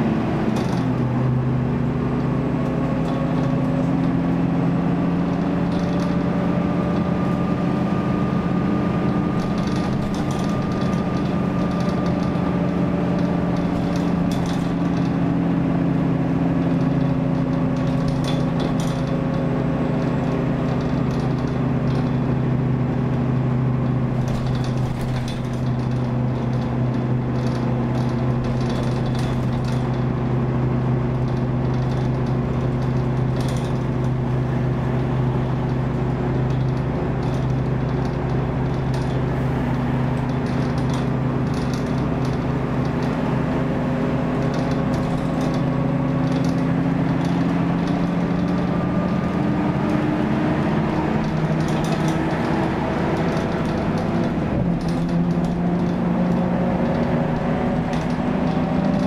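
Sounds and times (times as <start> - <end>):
bus diesel engine drone: 0.0 - 59.0
road noise: 0.0 - 59.0
light rattles: 0.4 - 59.0.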